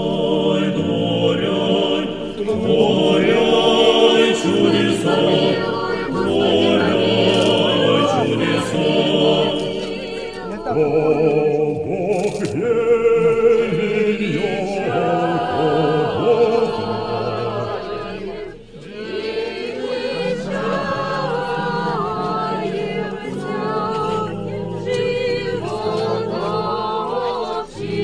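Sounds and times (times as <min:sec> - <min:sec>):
choir chanting: 0:00.0 - 0:28.0.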